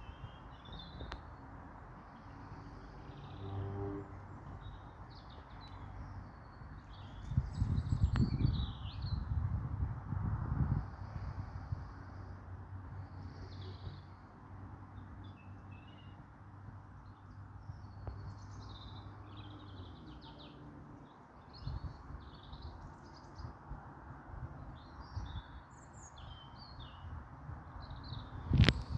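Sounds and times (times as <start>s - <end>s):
outdoor background noise: 0.0s - 28.9s.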